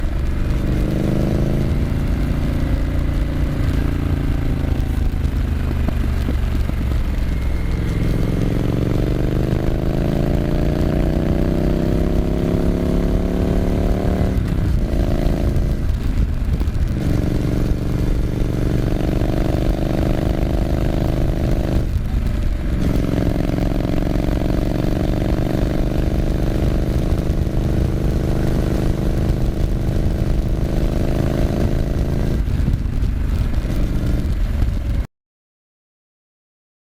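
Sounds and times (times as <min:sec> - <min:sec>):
motorcycle engine rumbling: 0:00.0 - 0:35.1.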